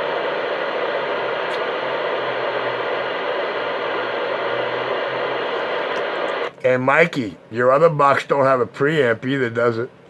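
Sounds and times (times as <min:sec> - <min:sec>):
radio static hiss: 0:00.0 - 0:09.8
faint low hum: 0:00.0 - 0:10.0.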